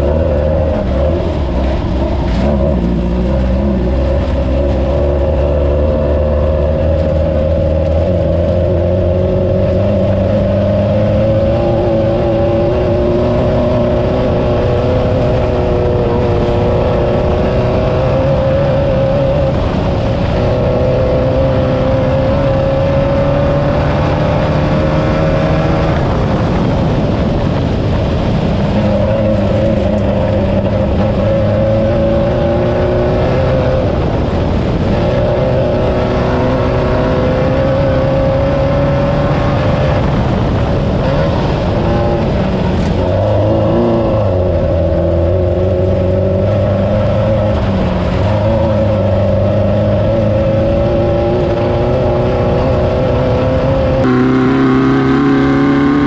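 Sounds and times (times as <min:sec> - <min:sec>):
buggy engine running hard: 0:00.0 - 0:56.0
car noise at speed: 0:00.0 - 0:56.0.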